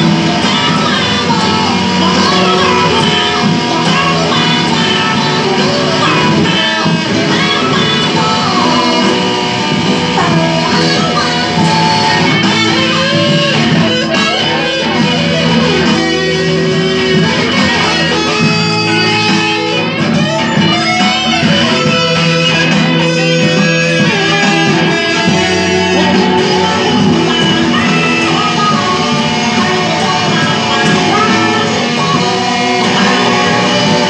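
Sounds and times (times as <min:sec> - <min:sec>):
rock electric guitar: 0:00.0 - 0:34.0.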